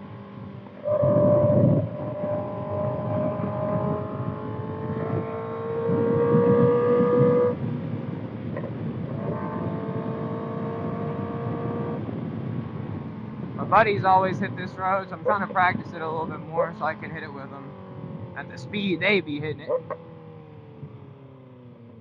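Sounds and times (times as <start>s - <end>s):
motorcycle engine revving: 0.0s - 13.8s, 14.4s - 22.0s
wind noise on microphone: 0.1s - 21.2s.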